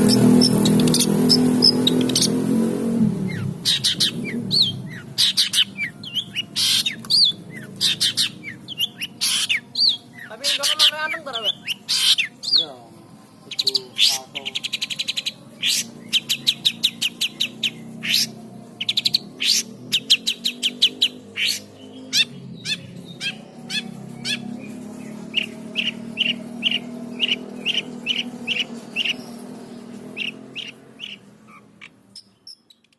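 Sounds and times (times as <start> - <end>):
shrike chirping and trilling: 0.0 - 32.9.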